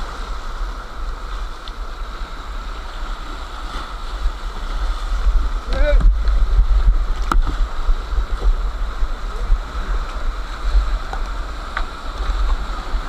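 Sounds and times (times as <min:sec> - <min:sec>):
deep rumble on microphone: 0:00.0 - 0:13.0.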